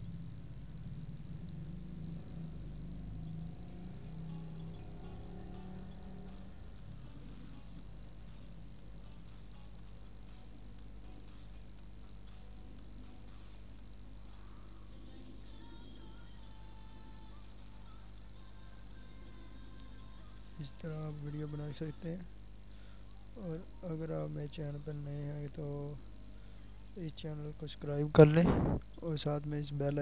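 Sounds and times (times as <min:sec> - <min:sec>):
high-pitched whine: 0:00.0 - 0:30.0
low hum: 0:00.0 - 0:30.0.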